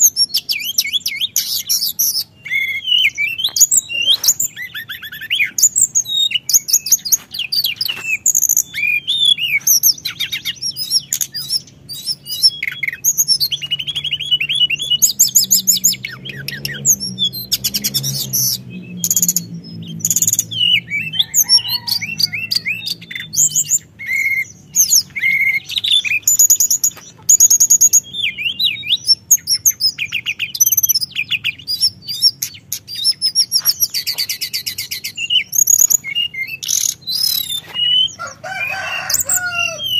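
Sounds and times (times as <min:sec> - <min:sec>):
songbird trilling and chirping: 0:00.0 - 0:39.9.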